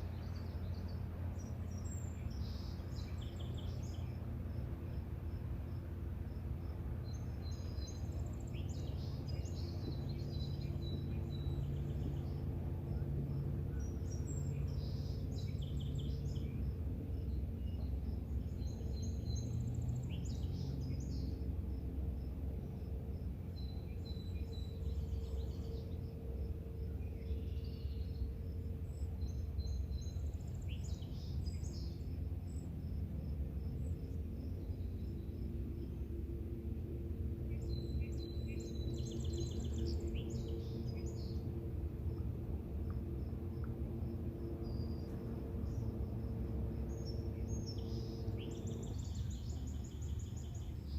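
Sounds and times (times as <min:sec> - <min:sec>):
continuous low rumble: 0:00.0 - 0:50.9
songbird singing: 0:00.0 - 0:50.9
insect chirping: 0:00.1 - 0:50.9.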